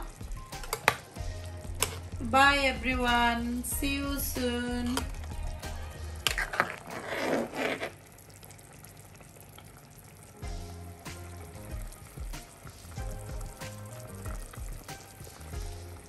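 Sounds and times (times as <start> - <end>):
soft background music: 0.0 - 7.6, 9.7 - 16.0.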